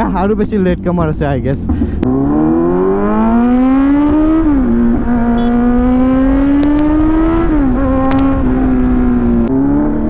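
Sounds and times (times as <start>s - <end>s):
motorcycle engine accelerating: 0.6s - 10.0s.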